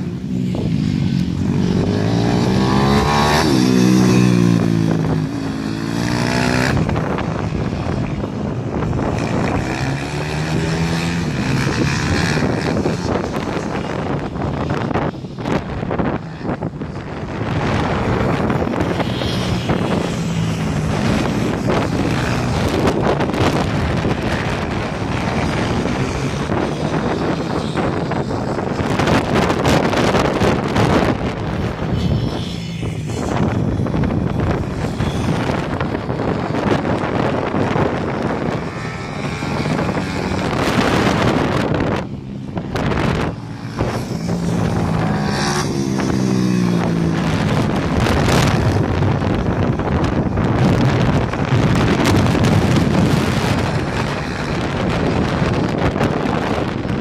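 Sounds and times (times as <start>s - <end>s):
motorbike engines revving: 0.0s - 57.0s
wind buffeting microphone: 0.0s - 57.0s.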